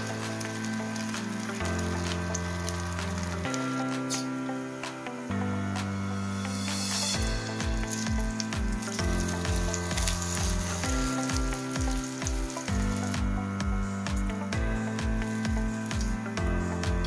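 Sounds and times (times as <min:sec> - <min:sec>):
background music with bass beat: 0:00.0 - 0:17.0
patties sizzling in a frying pan: 0:00.0 - 0:17.0.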